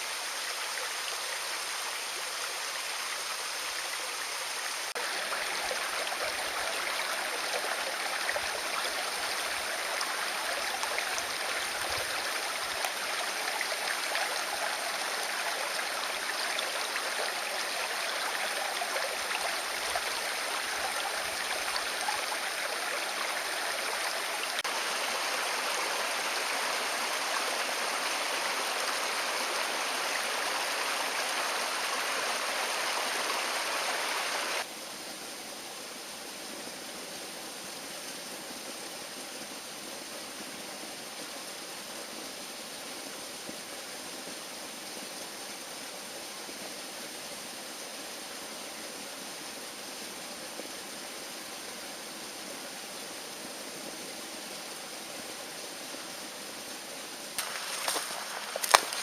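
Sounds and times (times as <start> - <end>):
stream rushing over rocks: 0.0 - 34.8, 37.7 - 59.0.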